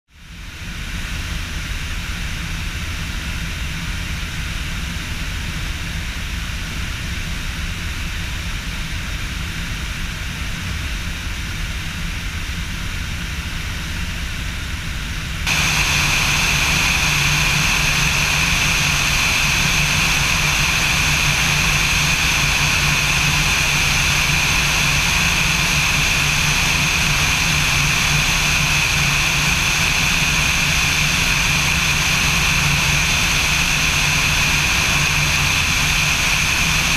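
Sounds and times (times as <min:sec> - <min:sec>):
propeller aircraft engine droning: 0:00.2 - 0:36.9.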